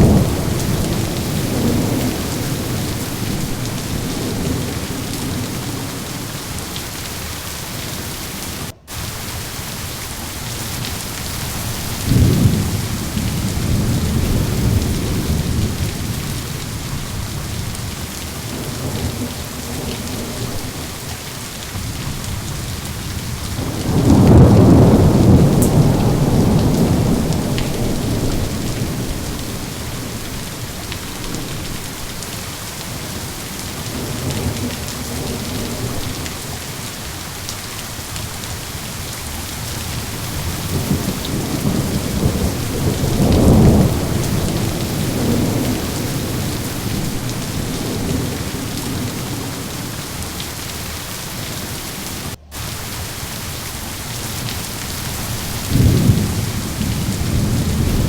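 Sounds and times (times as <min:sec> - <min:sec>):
steady rain: 0:00.0 - 0:58.0
thunder rumbling: 0:00.0 - 0:58.0.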